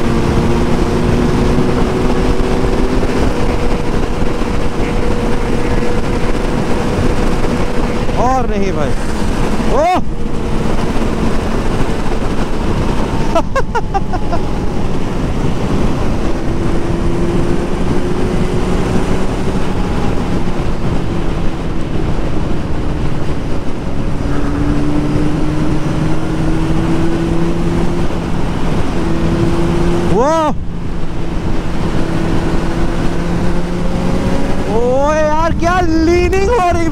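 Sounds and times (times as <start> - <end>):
motorcycle engine running hard: 0.0 - 36.9
wind rush on microphone: 0.0 - 36.9.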